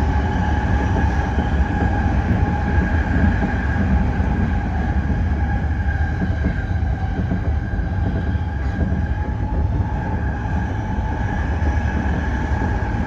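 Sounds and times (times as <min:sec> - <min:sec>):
electric train whine: 0:00.0 - 0:13.0
train rumbling on track: 0:00.0 - 0:13.0.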